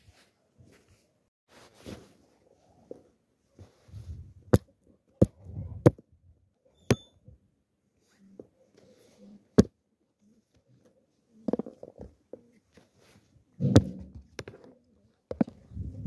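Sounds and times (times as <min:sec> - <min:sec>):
soft handling noise: 0:00.0 - 0:06.1, 0:07.9 - 0:16.0.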